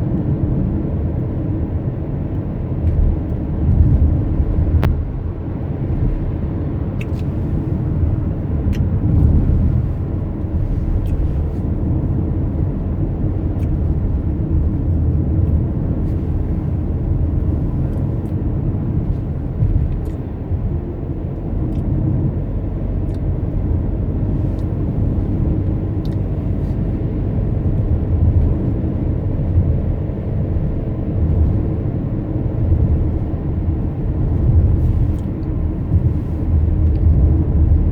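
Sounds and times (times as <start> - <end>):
car road and engine rumble: 0.0 - 37.9.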